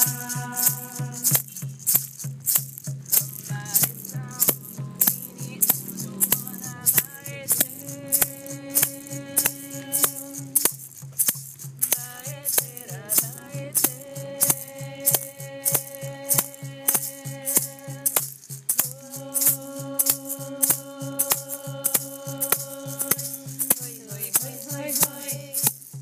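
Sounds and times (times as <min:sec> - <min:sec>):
person singing long held notes: 0:00.0 - 0:01.4, 0:03.2 - 0:10.6, 0:11.9 - 0:18.2, 0:18.8 - 0:25.7
gourd rattle shaken: 0:00.0 - 0:26.0.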